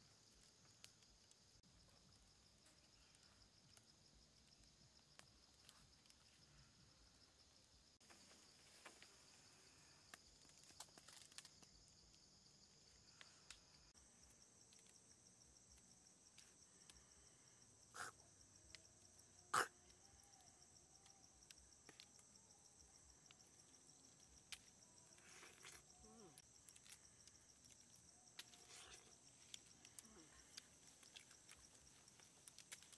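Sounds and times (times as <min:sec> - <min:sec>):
insects droning: 0:00.0 - 0:32.9.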